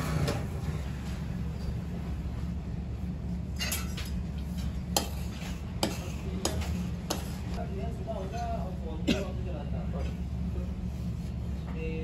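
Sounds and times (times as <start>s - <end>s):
low hum of workshop machinery: 0.0s - 12.0s.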